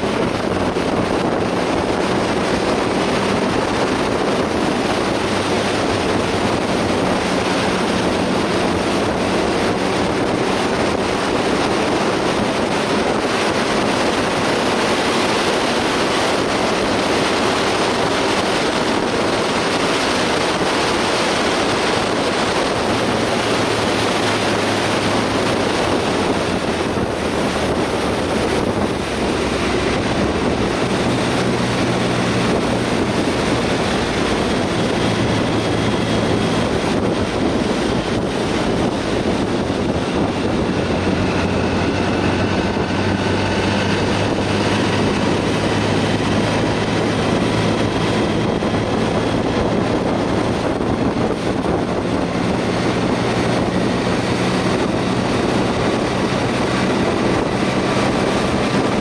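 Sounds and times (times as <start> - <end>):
motorcycle engine humming: 0.0 - 59.0
wind rush over microphone: 0.0 - 59.0.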